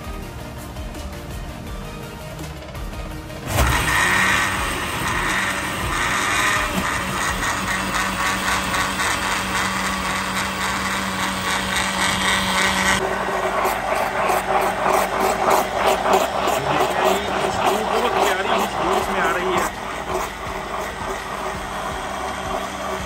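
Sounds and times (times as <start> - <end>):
blender motor running: 3.4 - 23.0.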